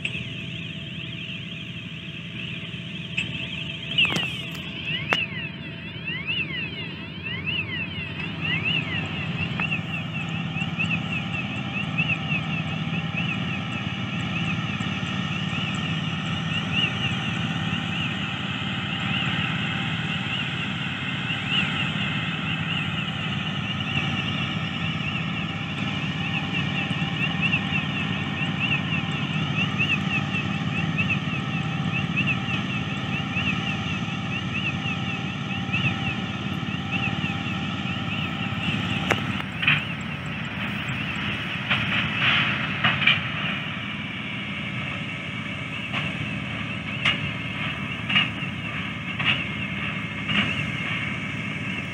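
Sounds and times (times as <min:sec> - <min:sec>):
heavy construction machinery drone: 0:00.0 - 0:51.9.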